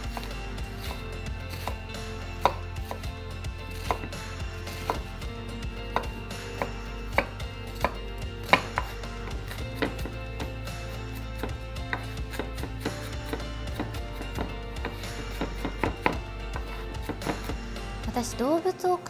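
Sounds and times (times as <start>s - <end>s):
knife chopping on wooden board: 0.1s - 5.2s, 5.9s - 17.6s.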